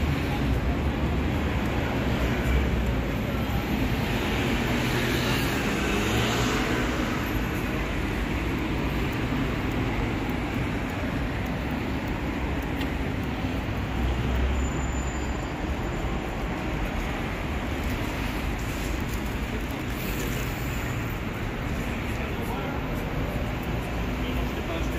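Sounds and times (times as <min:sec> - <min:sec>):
city street traffic rumble: 0:00.0 - 0:24.9.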